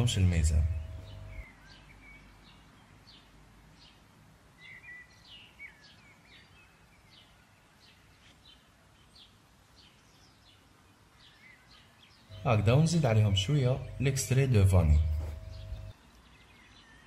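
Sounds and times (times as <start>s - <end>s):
faint bird chirping: 0.0s - 17.0s
low steady hiss: 0.0s - 17.0s.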